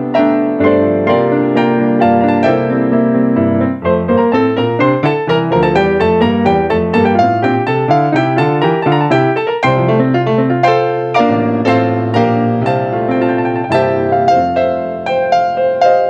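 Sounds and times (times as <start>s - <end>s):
piano playing: 0.0s - 16.0s.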